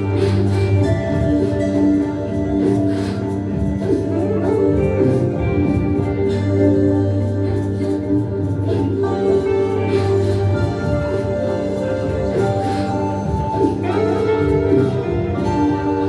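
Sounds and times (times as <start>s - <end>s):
plucked notes: 0.0s - 16.0s.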